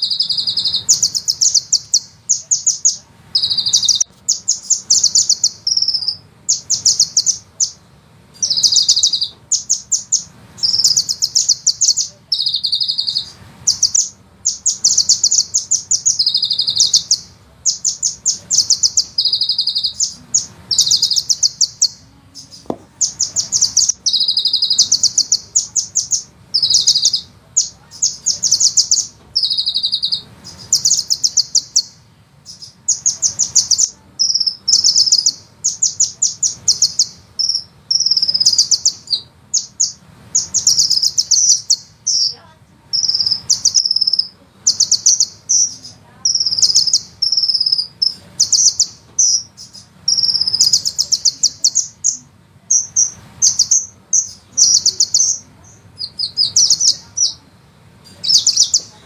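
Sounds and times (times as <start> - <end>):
bird trilling and chattering: 0.0 - 59.0.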